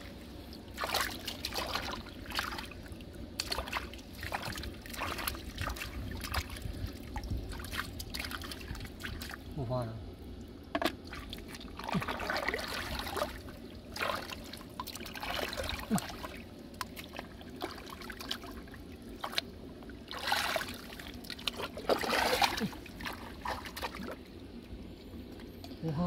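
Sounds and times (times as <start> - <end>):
hands sloshing in wet mud: 0.7 - 9.4, 11.1 - 24.2.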